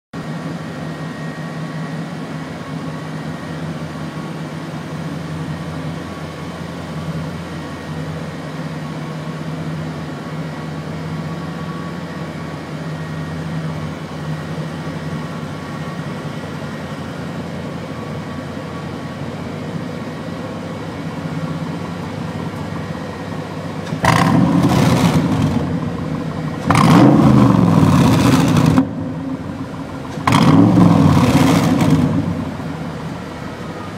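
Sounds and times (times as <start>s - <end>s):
car engine idling and revving: 2.5s - 33.9s.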